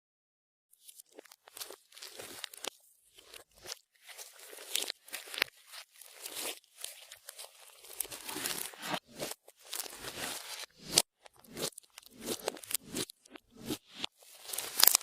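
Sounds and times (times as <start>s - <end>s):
slime crackling and popping: 1.1s - 15.0s.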